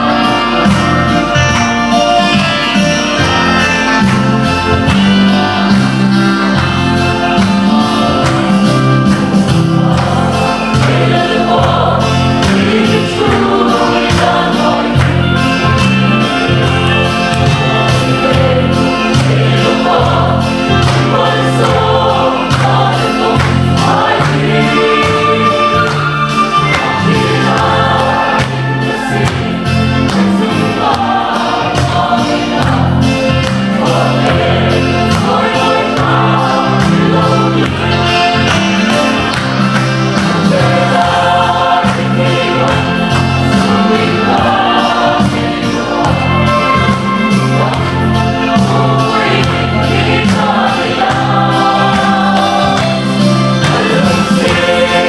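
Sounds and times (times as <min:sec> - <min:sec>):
mixed choir singing a hymn: 0:00.0 - 0:55.0.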